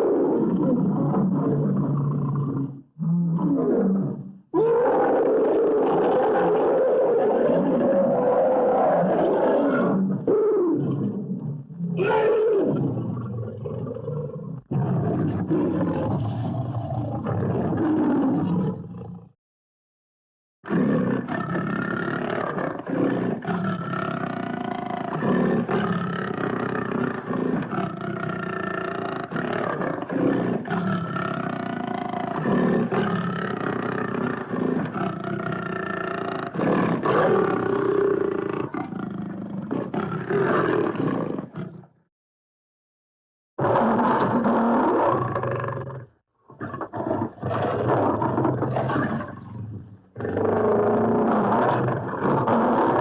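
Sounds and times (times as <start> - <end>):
cartoon lion roaring and growling: 0.0 - 19.4, 20.6 - 42.0, 43.6 - 53.0.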